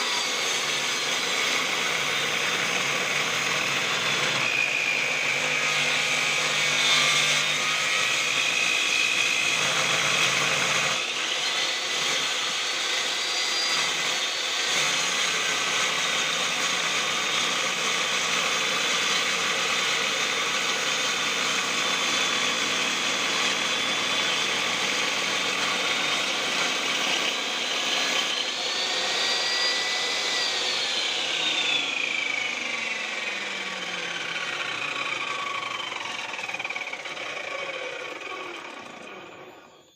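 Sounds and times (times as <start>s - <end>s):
wood saw machine whining: 0.0s - 39.9s.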